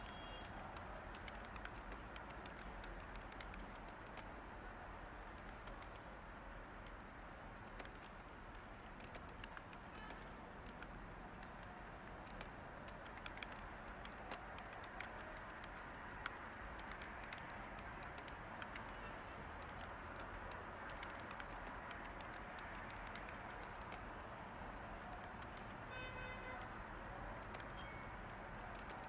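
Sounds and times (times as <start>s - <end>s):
keyboard typing: 0.0s - 4.4s, 5.3s - 6.1s, 7.6s - 24.2s, 24.9s - 25.9s, 26.5s - 29.0s.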